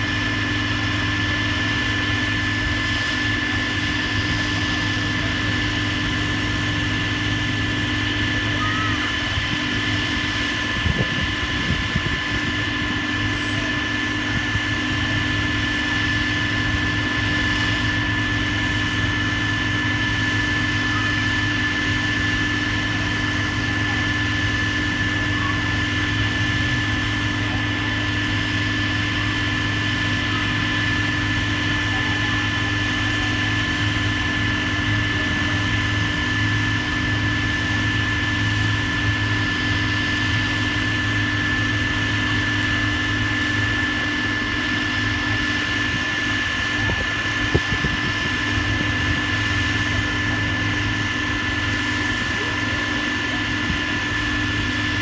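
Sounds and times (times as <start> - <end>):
heavy machinery running: 0.0 - 55.0.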